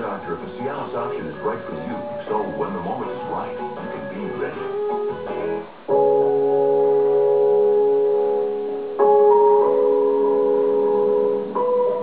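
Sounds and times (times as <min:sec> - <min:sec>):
sustained keyboard chords: 0:00.0 - 0:12.0.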